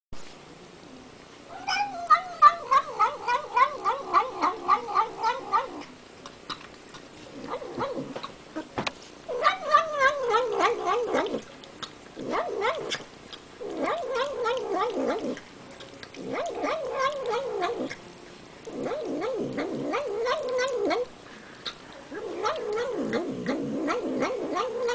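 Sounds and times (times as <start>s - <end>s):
cat making nom nom noises eating: 1.2s - 24.9s.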